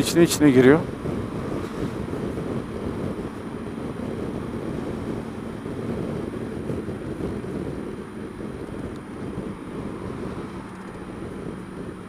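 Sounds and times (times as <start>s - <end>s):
wind rush on microphone: 0.0s - 12.0s
scooter engine droning: 0.8s - 12.0s.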